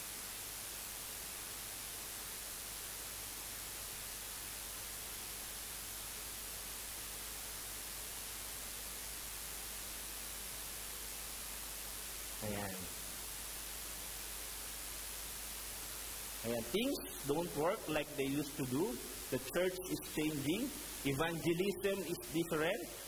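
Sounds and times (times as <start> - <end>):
faint low hum: 0.0 - 23.0
steady electronic hiss: 0.0 - 23.0.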